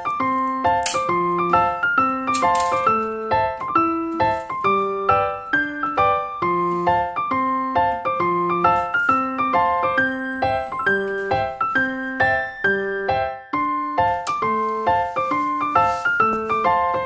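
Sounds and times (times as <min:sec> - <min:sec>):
piano-like keyboard melody: 0:00.0 - 0:17.0.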